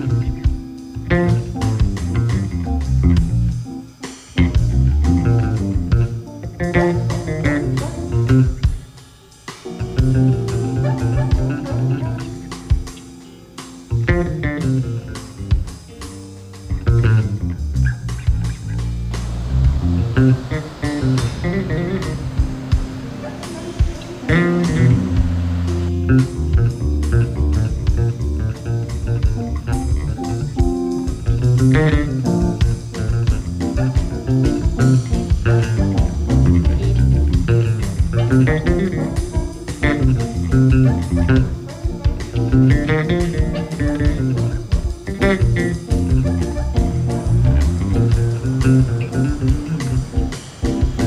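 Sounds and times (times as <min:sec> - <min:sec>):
bass line: 0:00.0 - 0:03.7, 0:04.4 - 0:08.8, 0:09.8 - 0:13.0, 0:13.9 - 0:51.0
plucked guitar: 0:00.0 - 0:09.0, 0:09.6 - 0:51.0
light drum kit: 0:00.0 - 0:51.0.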